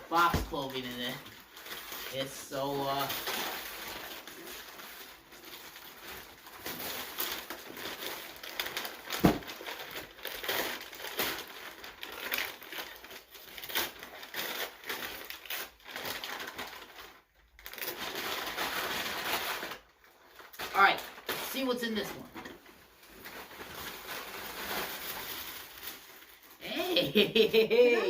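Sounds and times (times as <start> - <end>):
wrapping paper tearing and crinkling: 0.0 - 26.8.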